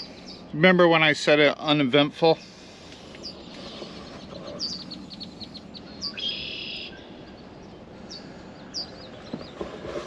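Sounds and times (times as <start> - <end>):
songbird chirping and trilling: 0.0 - 9.7.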